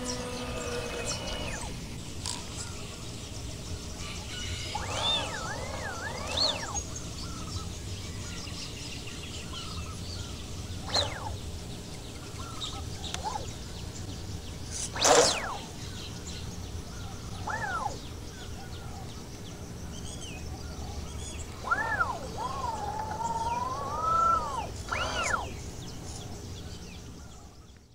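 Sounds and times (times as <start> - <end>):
low hum: 0.0 - 26.6
birds calling: 0.0 - 27.9.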